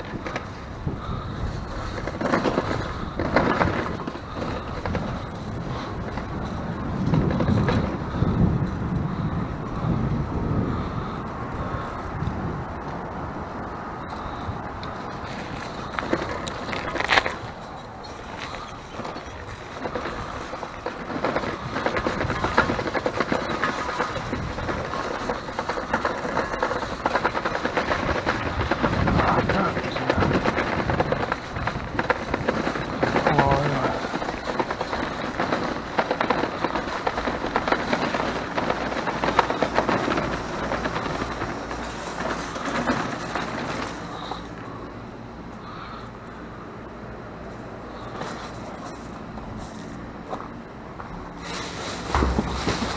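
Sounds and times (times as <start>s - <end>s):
bicycle rattling over rough ground: 0.0s - 52.9s.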